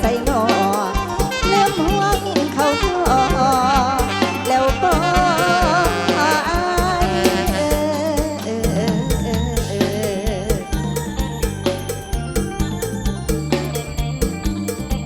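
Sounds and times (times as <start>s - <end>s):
wavering lead melody: 0.0s - 15.0s.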